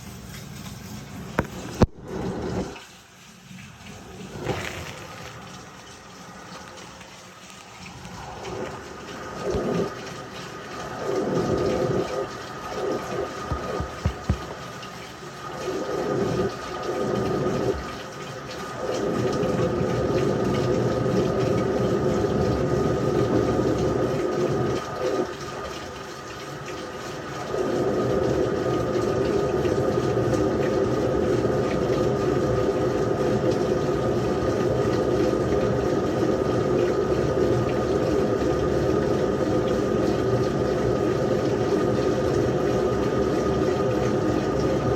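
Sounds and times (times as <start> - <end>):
constant hum: 0.0 - 44.9
washing machine water rushing: 0.0 - 44.9.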